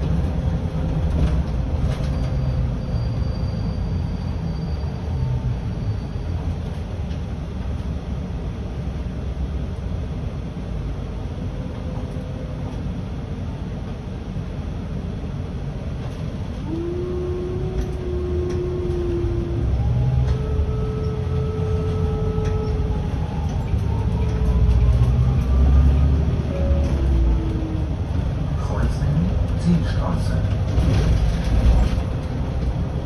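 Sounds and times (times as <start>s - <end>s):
bus drivetrain and road rumble: 0.0s - 33.0s
bus whine: 0.0s - 33.0s.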